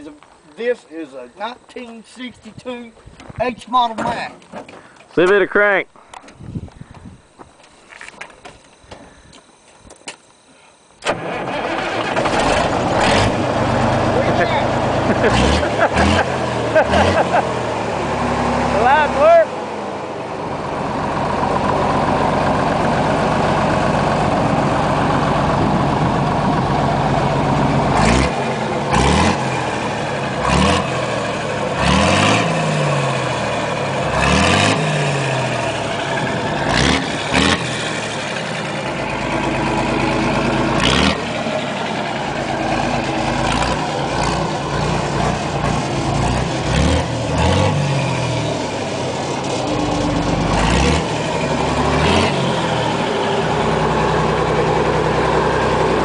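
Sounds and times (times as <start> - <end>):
truck engine revving: 11.0 - 56.0.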